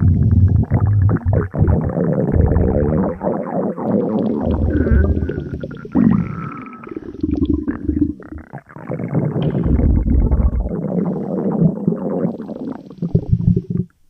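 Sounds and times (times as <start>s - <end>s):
cartoon stomach rumbles: 0.0s - 13.9s.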